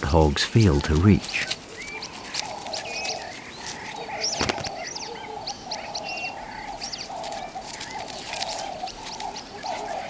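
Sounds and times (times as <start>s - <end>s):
birds chirping and whistling: 0.0s - 10.0s.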